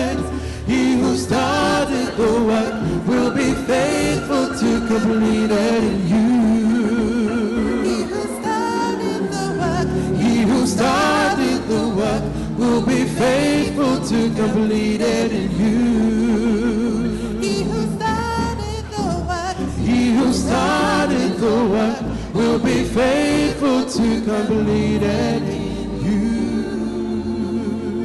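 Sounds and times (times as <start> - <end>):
gospel vocal trio singing: 0.0 - 28.0
low backing vocal part: 0.0 - 28.0.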